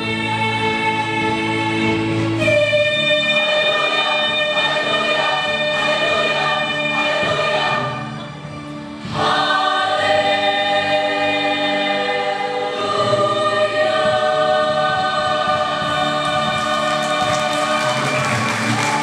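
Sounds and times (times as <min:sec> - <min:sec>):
choir singing sustained chords: 0:00.0 - 0:19.0.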